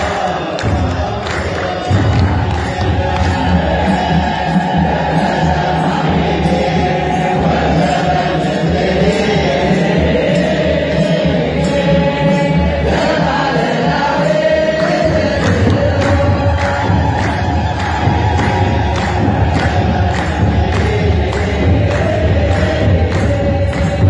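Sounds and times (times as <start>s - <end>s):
hand clapping: 0.0s - 6.7s, 10.4s - 24.0s
men singing chant: 0.0s - 24.0s.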